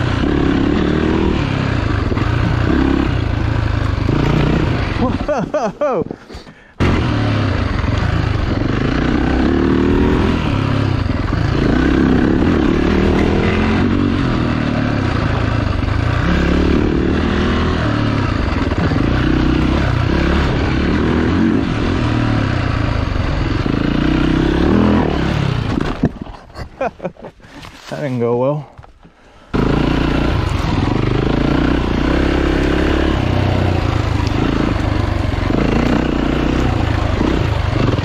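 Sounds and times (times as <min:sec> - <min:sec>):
motorcycle engine revving: 0:00.0 - 0:06.0, 0:06.8 - 0:26.6, 0:29.4 - 0:38.0.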